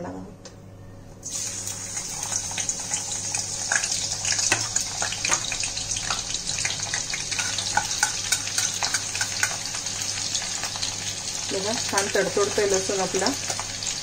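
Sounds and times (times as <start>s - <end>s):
garlic sizzling in hot oil: 1.2s - 14.0s.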